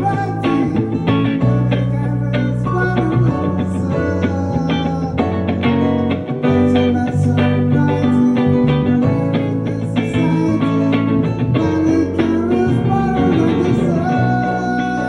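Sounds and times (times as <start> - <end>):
held bass notes: 0.0 - 15.0
plucked guitar: 0.0 - 15.0.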